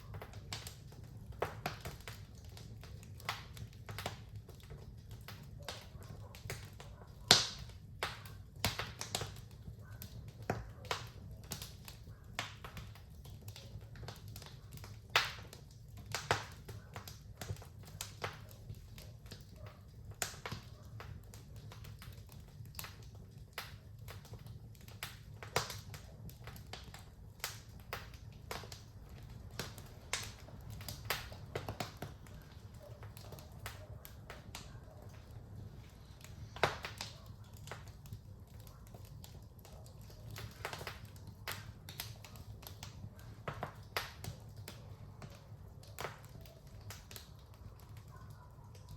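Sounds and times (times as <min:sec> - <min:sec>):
fire crackling and popping: 0:00.0 - 0:48.9
low rumble of flames: 0:00.0 - 0:48.9.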